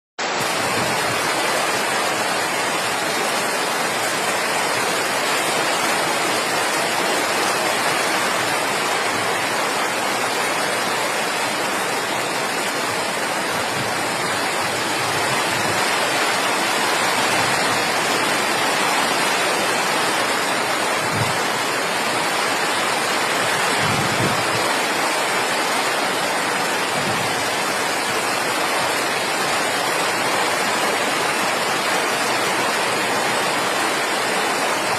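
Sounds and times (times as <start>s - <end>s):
rushing water from heavy rain: 0.2s - 34.9s.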